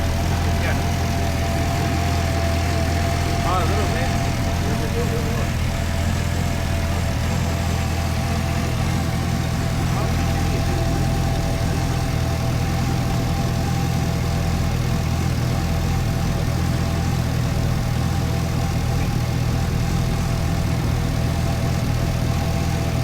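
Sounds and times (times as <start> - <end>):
car engine idling with misfire: 0.0 - 23.0.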